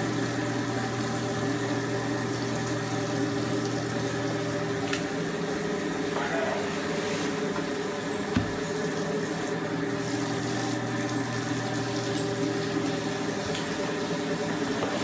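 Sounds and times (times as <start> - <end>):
rotating drum motor hum: 0.0 - 15.0.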